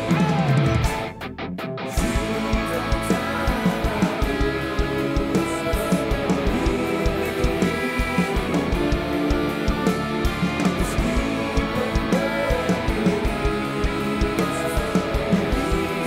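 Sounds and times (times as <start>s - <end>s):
pop-rock band music: 0.0s - 16.0s.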